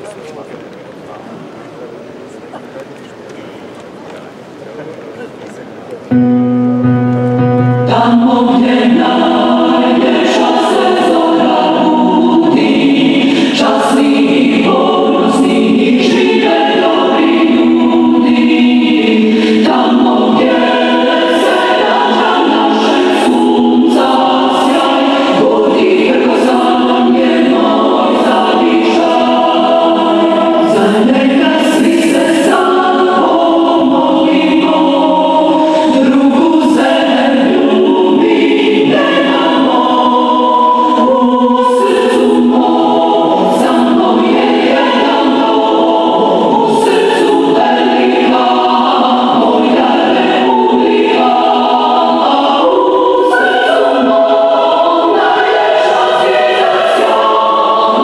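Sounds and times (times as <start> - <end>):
choir singing an anthem: 6.1 - 58.0.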